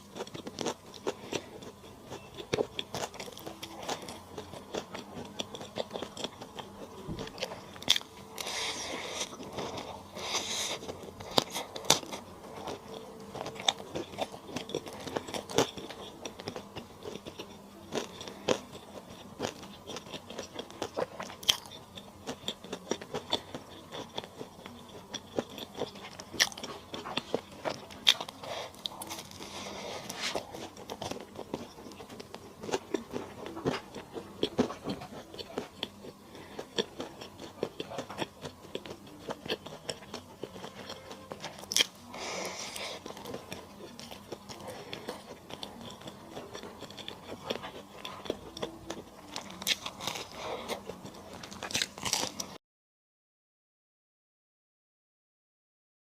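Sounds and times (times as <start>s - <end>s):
person chewing and crunching: 0.0s - 52.6s.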